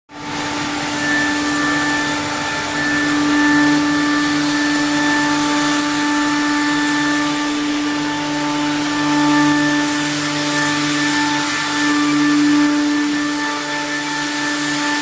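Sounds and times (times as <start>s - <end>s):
router spindle motor whine: 0.1s - 15.0s
rushing hiss of carving: 0.1s - 15.0s.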